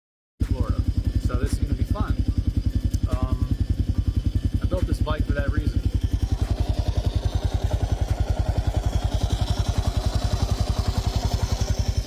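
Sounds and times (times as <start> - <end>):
motorcycle engine idling: 0.4 - 12.0.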